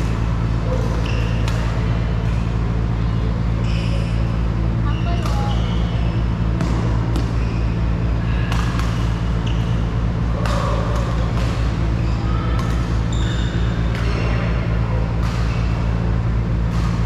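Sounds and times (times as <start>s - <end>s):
rackets striking shuttlecocks: 0.0s - 2.9s, 5.0s - 17.0s
steady low hum: 0.0s - 17.0s
shoes squeaking on court: 0.6s - 2.9s, 3.5s - 15.7s.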